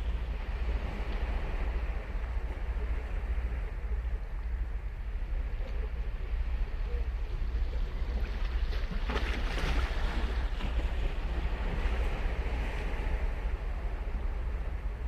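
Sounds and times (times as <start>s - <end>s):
waves breaking on shore: 0.0s - 15.0s
wind rumble on microphone: 0.0s - 15.0s.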